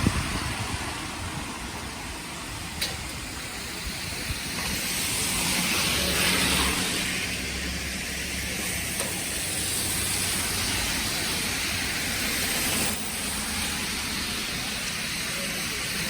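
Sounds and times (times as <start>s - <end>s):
hiss of wet snowy street: 0.0s - 16.0s.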